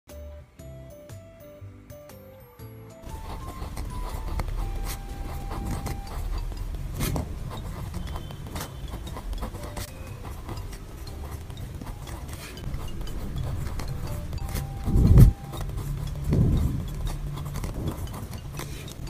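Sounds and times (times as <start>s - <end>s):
pen scratching on paper: 3.0s - 19.0s.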